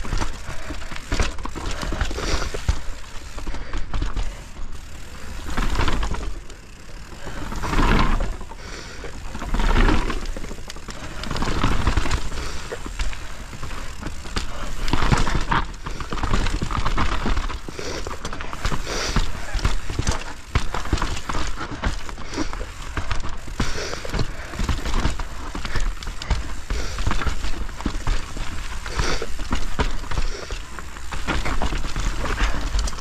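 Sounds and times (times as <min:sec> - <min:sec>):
bike knocking and rattling: 0:00.0 - 0:33.0
bike tyres rolling over snow: 0:00.0 - 0:33.0.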